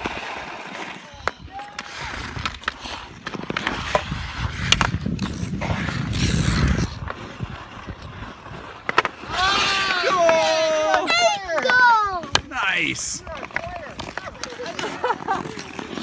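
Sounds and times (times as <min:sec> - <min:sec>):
hockey sticks striking puck: 0:00.0 - 0:16.0
ice skates scraping ice: 0:00.0 - 0:16.0.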